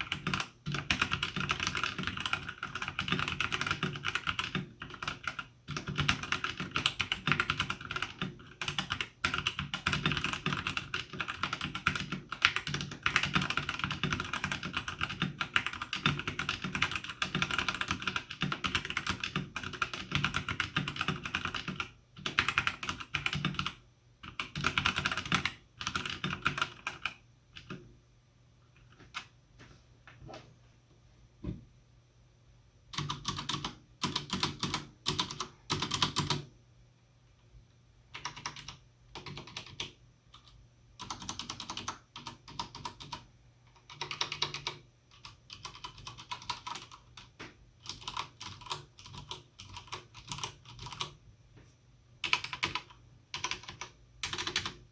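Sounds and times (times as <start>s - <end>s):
mechanical keyboard typing: 0.0s - 27.8s, 32.9s - 36.5s, 38.1s - 51.2s, 52.2s - 54.9s.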